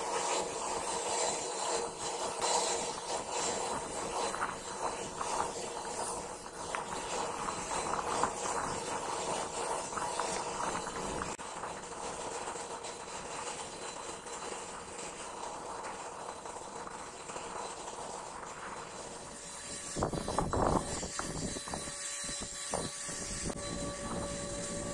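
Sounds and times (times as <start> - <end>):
hot steel sizzling: 0.0 - 24.9.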